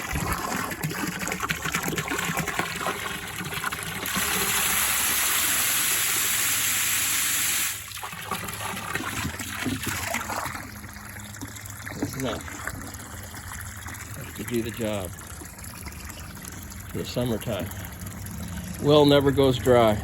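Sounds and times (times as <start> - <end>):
water running from a hose into tank: 0.0 - 20.0.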